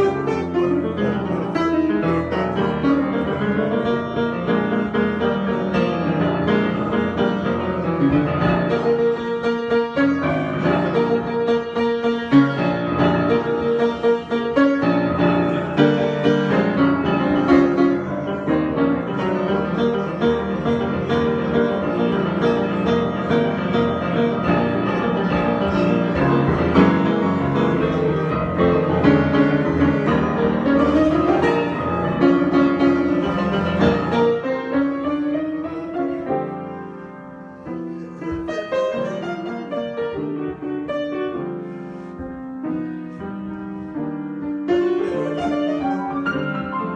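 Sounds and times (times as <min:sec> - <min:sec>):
solo piano improvisation: 0:00.0 - 0:46.9.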